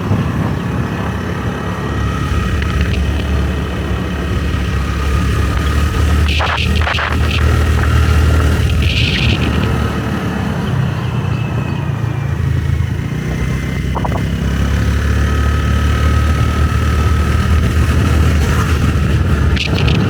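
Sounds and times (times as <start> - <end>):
motorbike engine droning: 0.0 - 20.0.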